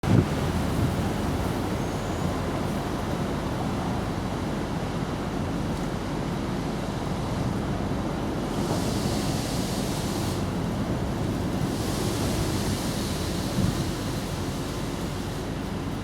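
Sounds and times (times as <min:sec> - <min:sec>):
wind noise on microphone: 0:00.0 - 0:06.4, 0:07.2 - 0:16.0.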